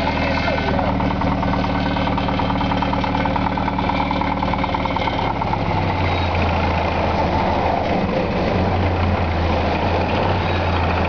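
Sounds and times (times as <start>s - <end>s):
jeep engine idling: 0.0s - 11.0s.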